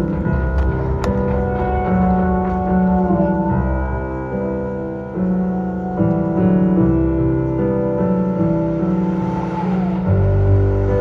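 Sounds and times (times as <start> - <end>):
piano ballad chords: 0.0 - 11.0.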